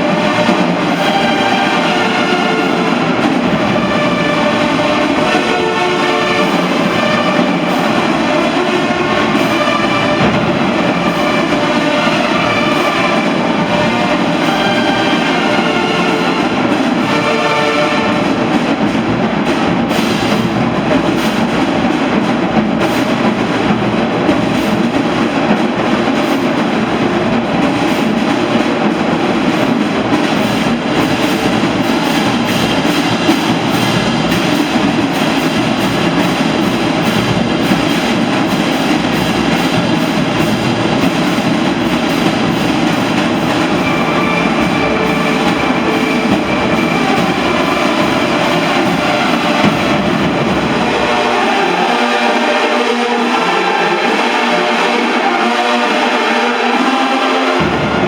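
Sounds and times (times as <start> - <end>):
marching band playing loudly: 0.0 - 58.0.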